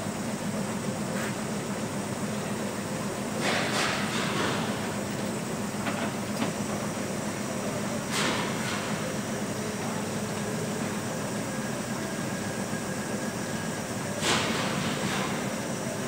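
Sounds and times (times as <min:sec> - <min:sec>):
workshop background hum: 0:00.0 - 0:16.0.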